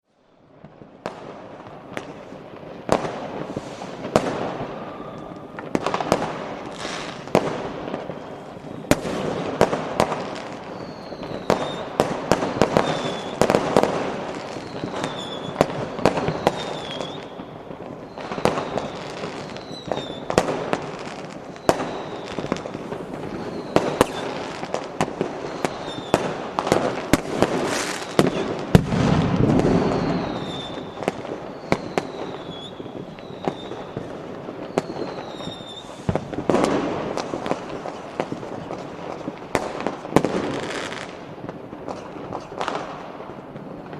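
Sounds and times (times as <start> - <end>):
falling firework whistle: 0.2 - 43.9
firecrackers crackling: 0.3 - 43.9
fireworks bangs: 0.3 - 43.9.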